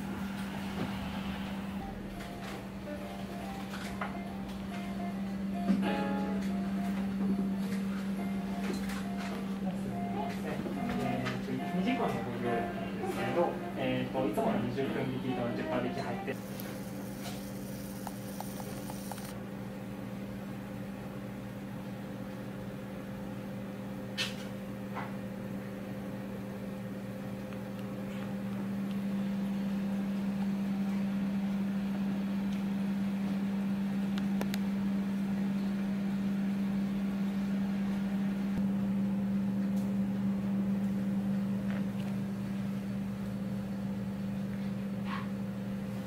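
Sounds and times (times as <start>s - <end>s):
low machine hum: 0.0s - 46.0s.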